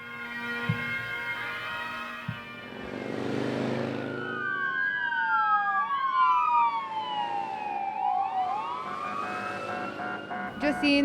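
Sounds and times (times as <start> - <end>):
police sirens wailing: 0.0 - 11.0.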